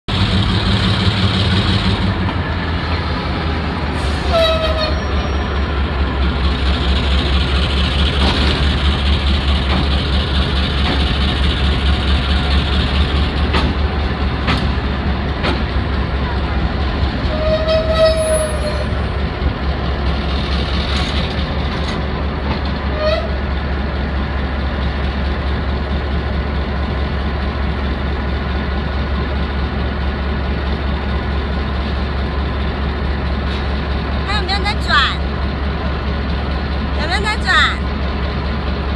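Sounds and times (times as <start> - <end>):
locomotive engine idling: 0.1 - 38.9.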